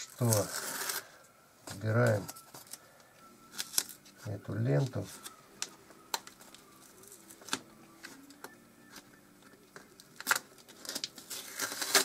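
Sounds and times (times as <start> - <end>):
tape peeling crackles: 0.0 - 2.8, 3.5 - 4.2, 4.8 - 9.0, 9.7 - 12.0.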